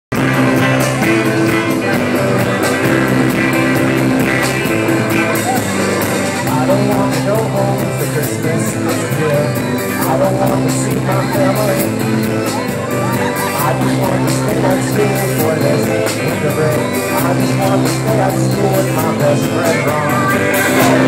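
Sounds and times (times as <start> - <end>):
live rock band playing: 0.1 - 21.0
person singing: 0.1 - 21.0.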